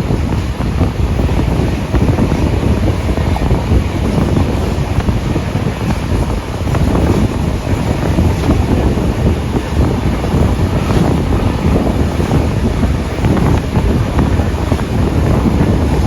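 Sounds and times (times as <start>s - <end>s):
train carriages rumbling on rails: 0.0s - 16.0s
wind buffeting microphone: 0.0s - 16.0s.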